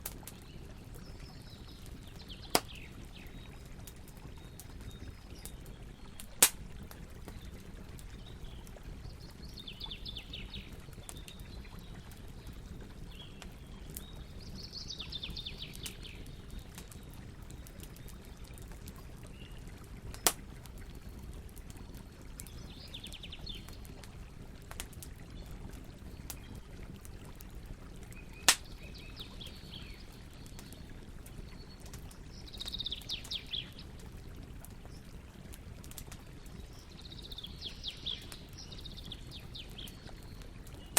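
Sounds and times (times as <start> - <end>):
campfire rustling: 0.0 - 40.9
fire crackling pops: 0.0 - 40.9.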